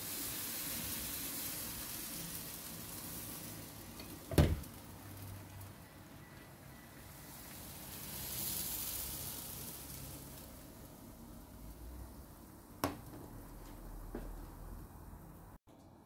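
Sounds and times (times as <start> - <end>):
batter sizzling in a pan: 0.0 - 15.2.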